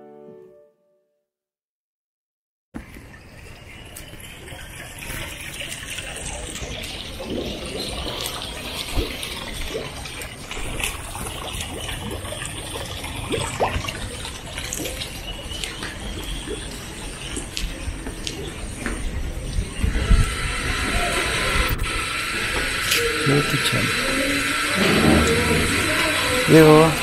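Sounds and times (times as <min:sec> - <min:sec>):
water splashing into pond: 0:02.8 - 0:27.0.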